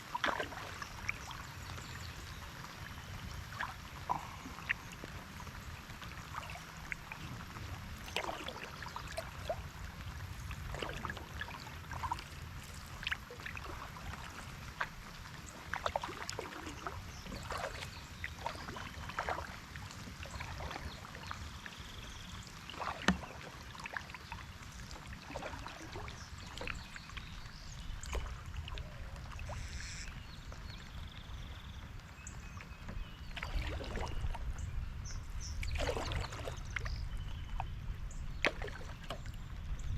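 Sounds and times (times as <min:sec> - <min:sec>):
paddle splashes and drips: 0:00.0 - 0:39.9.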